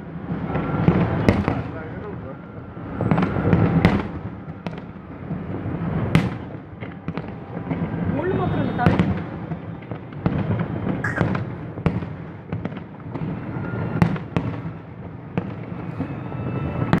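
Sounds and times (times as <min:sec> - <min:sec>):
distant fireworks rumble: 0:00.0 - 0:17.0
fireworks sharp bangs: 0:00.1 - 0:01.8, 0:03.0 - 0:17.0.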